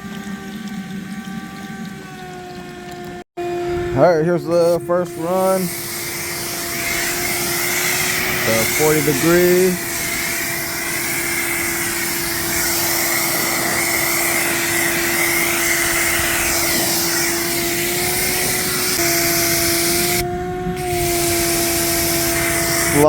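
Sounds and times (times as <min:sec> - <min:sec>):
water hissing from nozzle: 0:00.0 - 0:03.2, 0:04.3 - 0:20.2, 0:20.8 - 0:23.0
pressure washer motor humming: 0:00.0 - 0:23.0.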